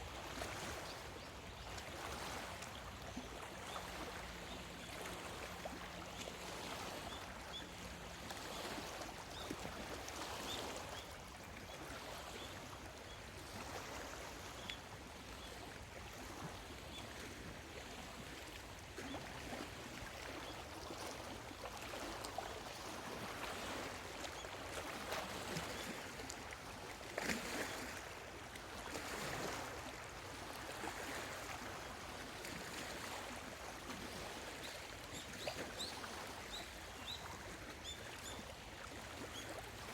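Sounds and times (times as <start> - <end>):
waves lapping on shore: 0.0 - 39.9.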